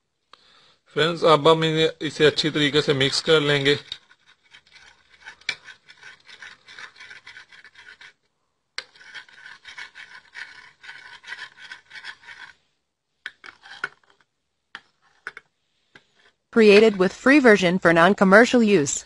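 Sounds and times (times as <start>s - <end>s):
utensil scraping around bowl: 2.0s - 17.6s.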